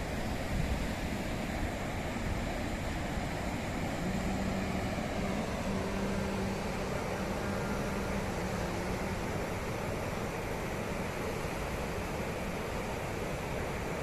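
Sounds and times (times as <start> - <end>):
low hum: 0.0 - 13.6
river rushing: 0.0 - 14.0.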